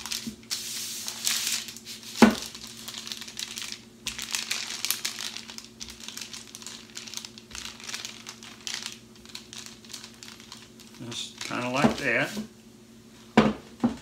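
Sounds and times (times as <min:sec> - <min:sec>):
parchment paper crinkling: 0:00.0 - 0:12.4.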